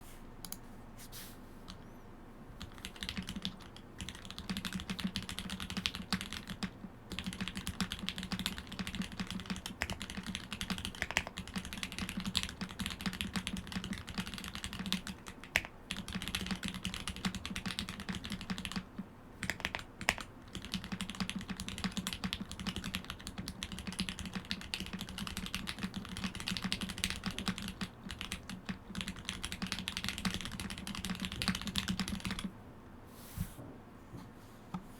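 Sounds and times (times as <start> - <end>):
fast mechanical keyboard typing: 2.6 - 32.5.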